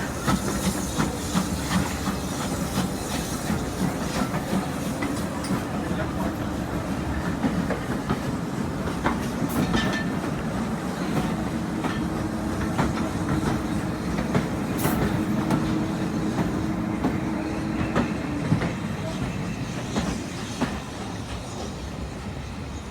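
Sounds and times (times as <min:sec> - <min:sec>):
train rumbling: 0:00.0 - 0:22.9.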